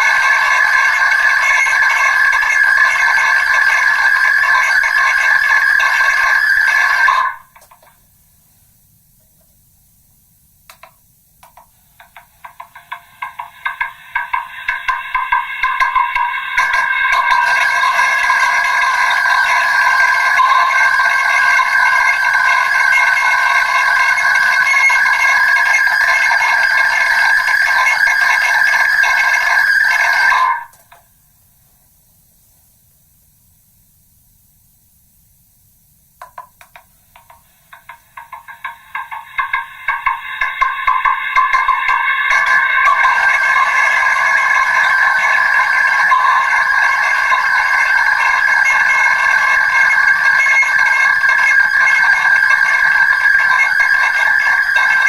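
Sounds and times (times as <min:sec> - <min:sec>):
ringing megaphone tones: 0:00.0 - 0:07.7, 0:12.0 - 0:31.0, 0:37.2 - 0:55.0.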